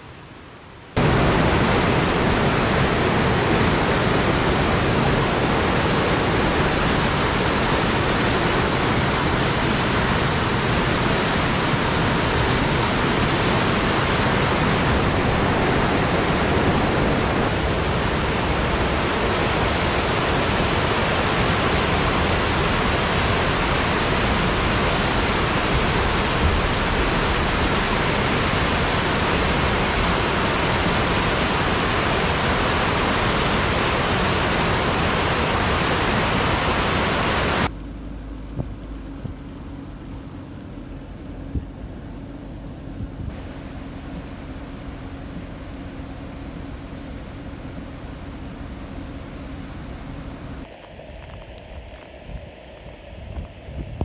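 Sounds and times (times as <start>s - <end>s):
river rushing: 0.0s - 37.7s, 42.3s - 53.7s.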